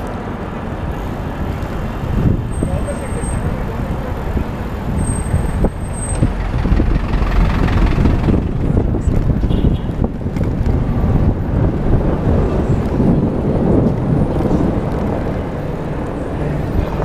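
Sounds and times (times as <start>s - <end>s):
city street traffic: 0.0s - 17.0s
wind rushing over microphone: 0.0s - 17.0s.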